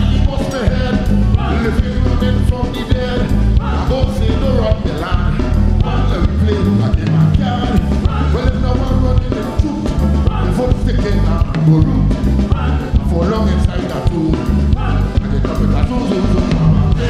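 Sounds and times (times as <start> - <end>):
calypso band playing: 0.0 - 17.0
person singing: 0.0 - 17.0.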